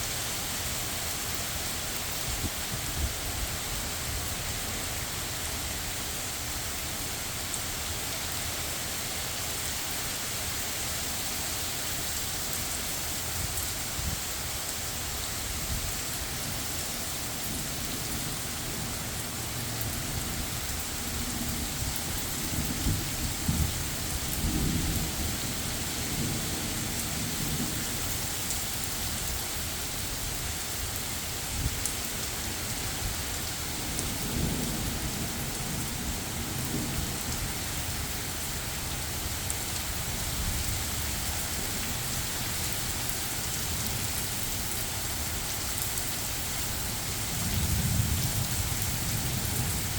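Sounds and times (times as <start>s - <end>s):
steady rain: 0.0s - 49.9s.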